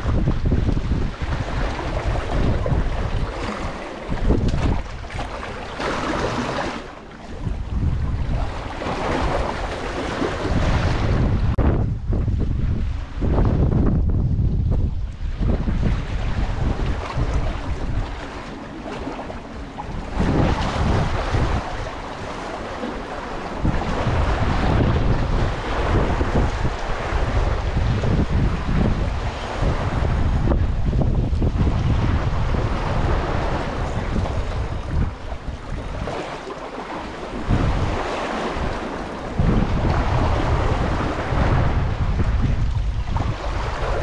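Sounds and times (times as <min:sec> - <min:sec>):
sea water lapping: 0:00.0 - 0:14.0, 0:14.6 - 0:44.0
wind buffeting microphone: 0:00.0 - 0:44.0.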